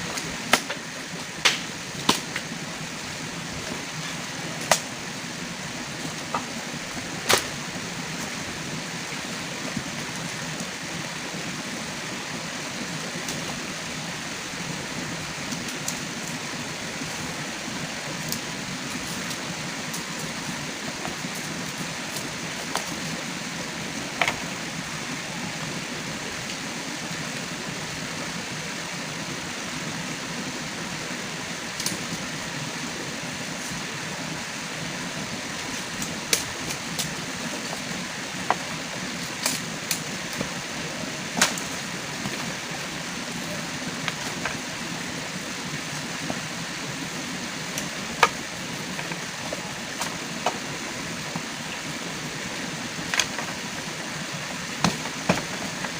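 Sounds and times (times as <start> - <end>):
heavy rain hiss: 0.0 - 55.9.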